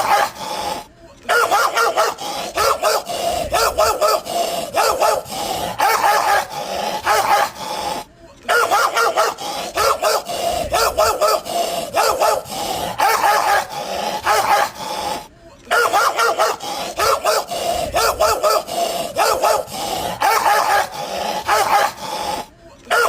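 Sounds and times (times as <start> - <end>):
dog barking angrily: 0.0 - 23.0.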